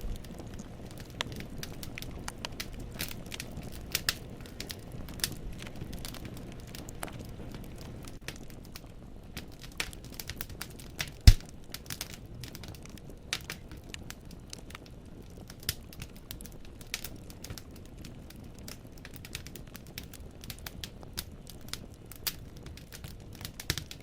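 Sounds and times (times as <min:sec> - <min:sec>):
firewood crackling in fireplace: 0:00.0 - 0:24.0.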